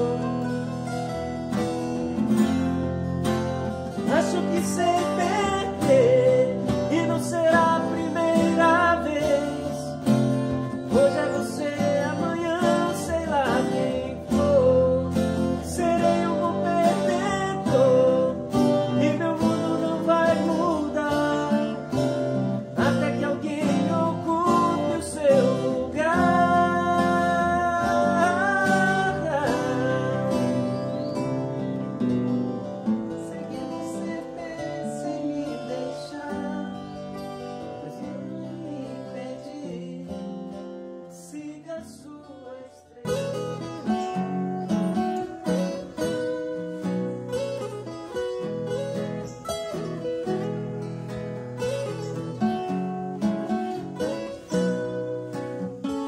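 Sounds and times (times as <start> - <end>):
acoustic guitars playing: 0.0 - 56.0.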